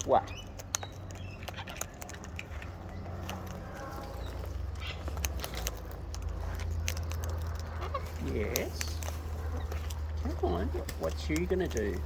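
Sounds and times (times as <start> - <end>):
beak and claw clicks and scrapes: 0.0 - 12.0.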